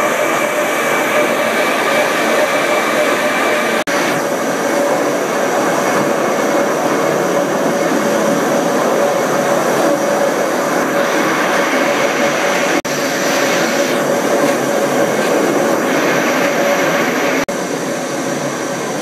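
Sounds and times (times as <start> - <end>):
drive whine: 0.0 - 19.0
rack railcar rumble and hiss: 0.0 - 19.0.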